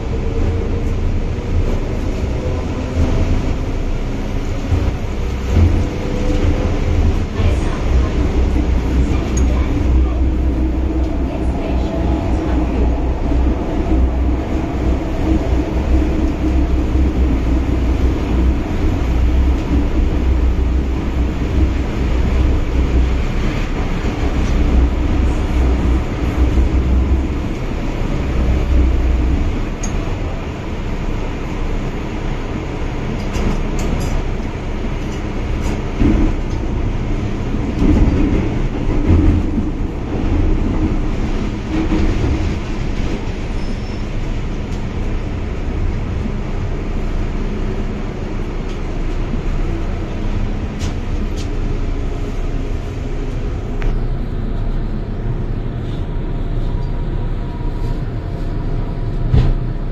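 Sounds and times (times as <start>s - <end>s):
metro train running in tunnel: 0.0s - 59.9s.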